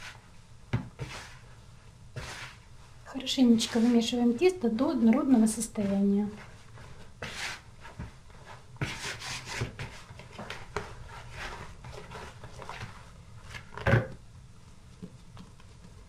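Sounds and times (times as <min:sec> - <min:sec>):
dough squishing against plastic: 0:00.0 - 0:16.0.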